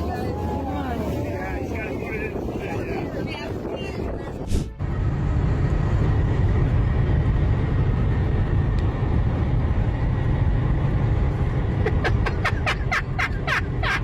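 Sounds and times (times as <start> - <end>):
wind on microphone: 0.0 - 12.4
boat engine rumbling: 0.0 - 14.0.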